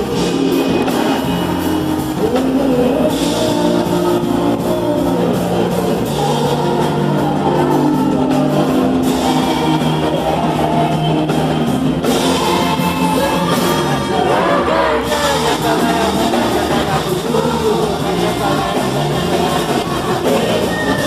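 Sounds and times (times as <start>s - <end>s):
drum kit: 0.0s - 21.0s
electric guitar: 0.0s - 21.0s
person singing: 0.0s - 21.0s.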